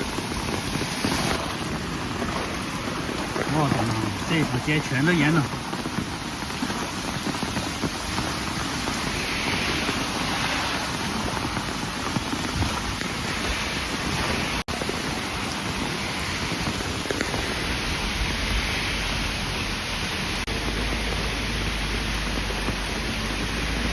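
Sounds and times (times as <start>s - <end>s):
heavy rain on flooded street: 0.0s - 23.9s.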